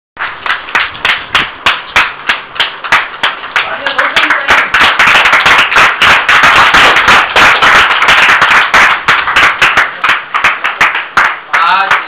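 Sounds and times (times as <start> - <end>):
people clapping: 0.2 - 12.0.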